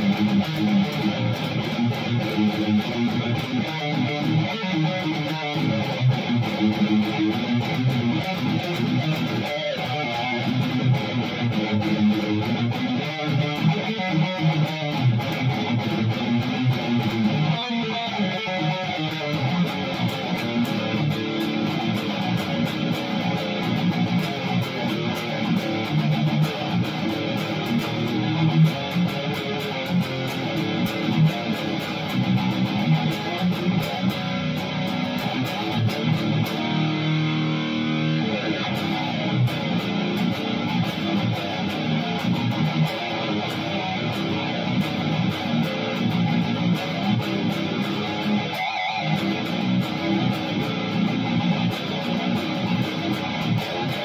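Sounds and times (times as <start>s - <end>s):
distorted electric guitar riffing: 0.0s - 54.0s.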